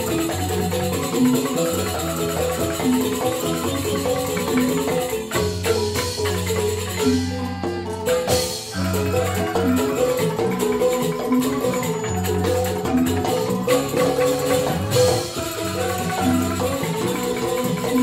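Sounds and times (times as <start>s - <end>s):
bamboo xylophones played fast: 0.0s - 18.0s.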